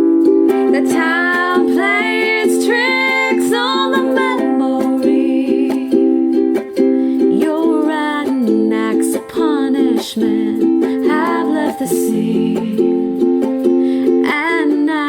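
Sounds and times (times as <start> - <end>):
person singing: 0.0 - 15.0
strummed string accompaniment: 0.0 - 15.0.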